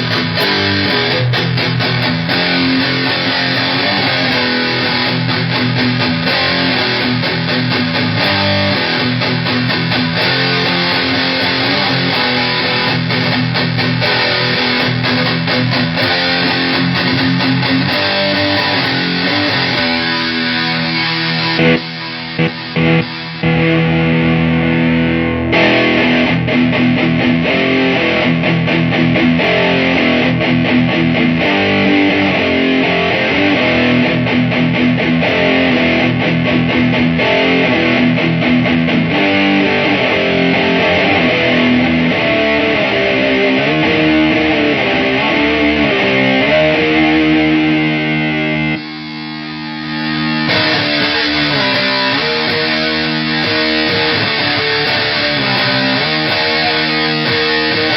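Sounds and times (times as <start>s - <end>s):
distorted electric guitar riffs: 0.0s - 57.9s.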